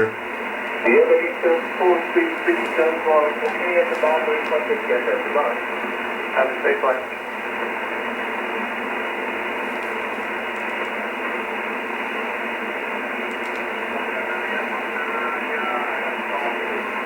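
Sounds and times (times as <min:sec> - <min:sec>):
radio static hiss: 0:00.0 - 0:12.2, 0:12.8 - 0:17.0.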